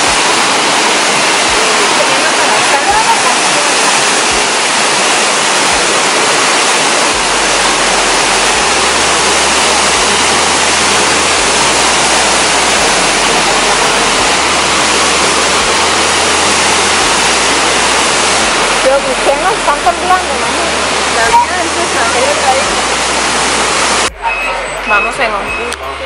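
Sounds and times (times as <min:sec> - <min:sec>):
waterfall roar: 0:00.0 - 0:24.1.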